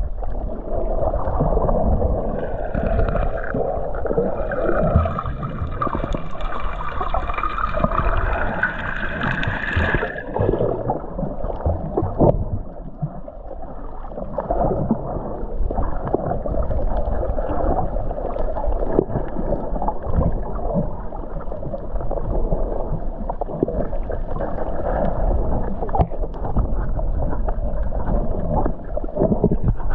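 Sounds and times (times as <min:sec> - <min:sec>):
underwater water gurgling: 0:00.0 - 0:29.9.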